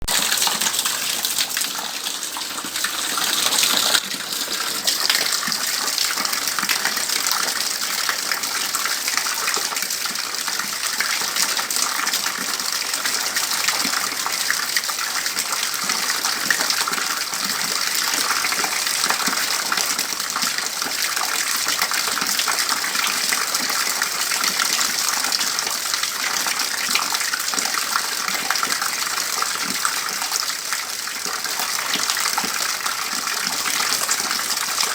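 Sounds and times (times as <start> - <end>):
rainwater pouring into bucket: 0.0 - 34.9.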